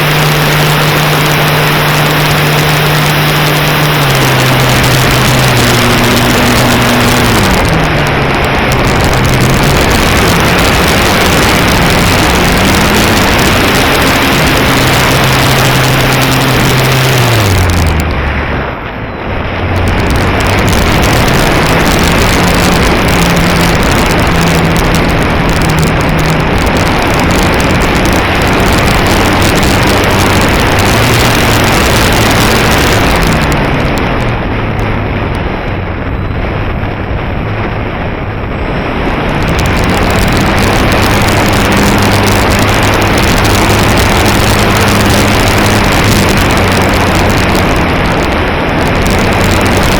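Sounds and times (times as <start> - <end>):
propeller motor hum: 0.0 - 49.9
wind buffeting microphone: 0.0 - 49.9.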